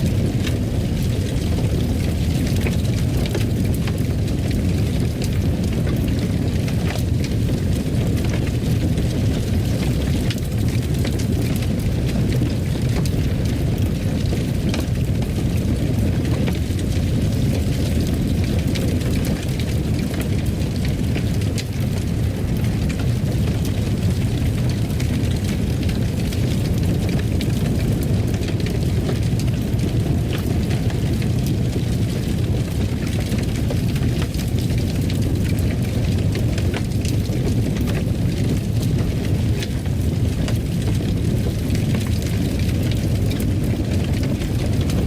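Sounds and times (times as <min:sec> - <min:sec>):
wood fire crackling and roaring: 0:00.0 - 0:45.0.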